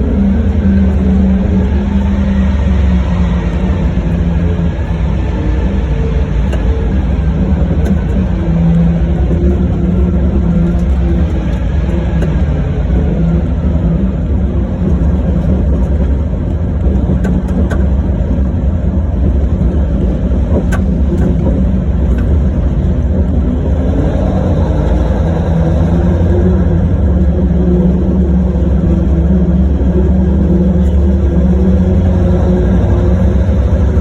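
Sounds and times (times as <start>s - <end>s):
large diesel engine droning: 0.0s - 34.0s.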